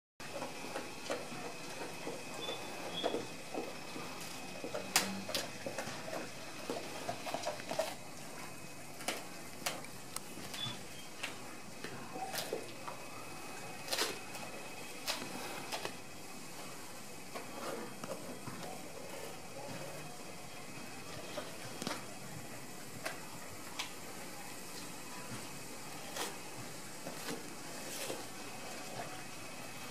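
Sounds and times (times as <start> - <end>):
dog chewing and crunching bones: 0.2 - 24.1, 24.7 - 29.9.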